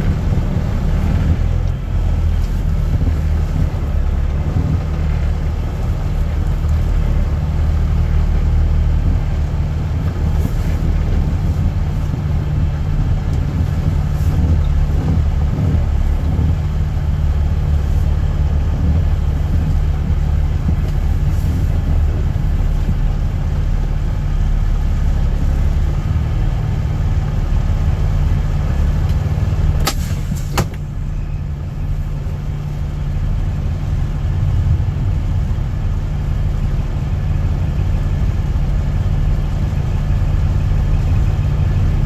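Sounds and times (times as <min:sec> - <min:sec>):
truck engine rumbling: 0:00.0 - 0:42.0.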